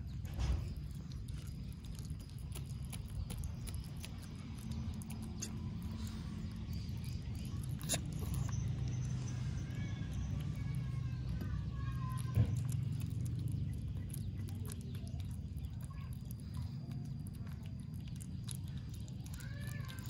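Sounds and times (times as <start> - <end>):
low background rumble: 0.0 - 20.0
otter chewing and smacking: 0.0 - 20.0.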